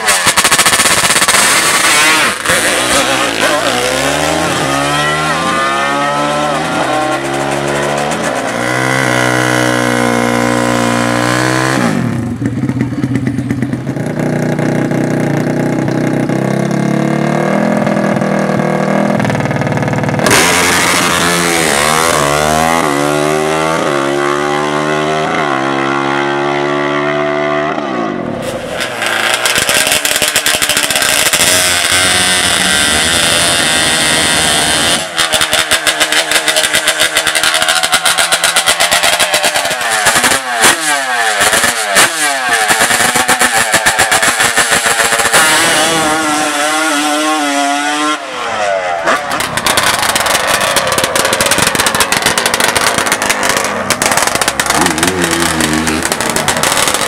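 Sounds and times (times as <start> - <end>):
racing engine accelerating: 0.0 - 12.2, 15.6 - 57.0.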